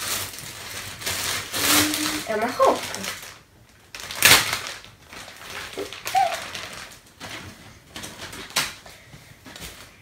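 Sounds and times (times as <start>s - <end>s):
plastic bag crinkling: 0.0s - 8.8s
sharp plastic crackle: 0.0s - 10.0s.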